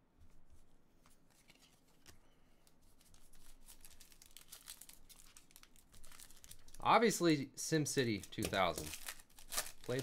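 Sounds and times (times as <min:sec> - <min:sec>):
cards rustling: 0:01.0 - 0:07.1, 0:08.0 - 0:10.0.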